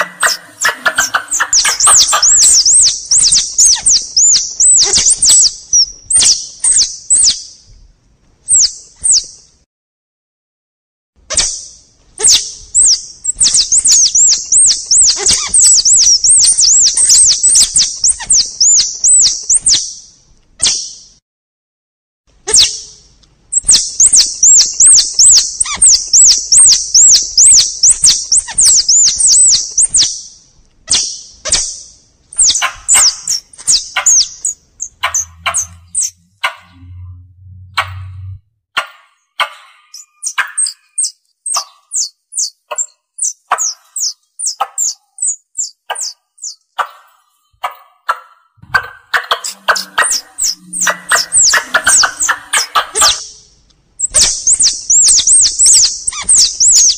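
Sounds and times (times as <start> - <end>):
high-pitched squirrel call chirps: 0.0 - 7.6, 8.4 - 9.4, 11.3 - 21.1, 22.4 - 37.1, 37.8 - 56.9.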